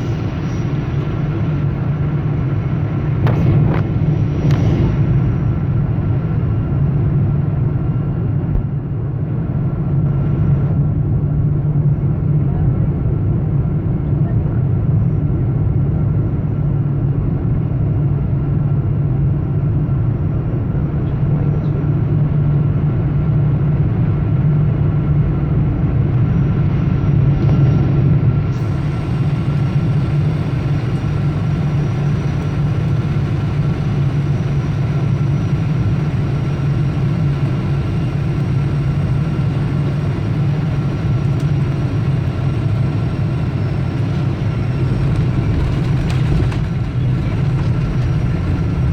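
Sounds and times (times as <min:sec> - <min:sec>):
airplane cabin engine drone: 0:00.0 - 0:48.9
faint steady whine: 0:00.0 - 0:48.9.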